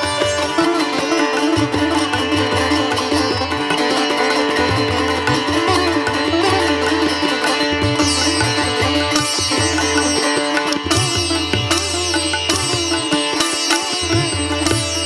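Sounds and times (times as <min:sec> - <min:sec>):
plucked-string melody: 0:00.0 - 0:15.0.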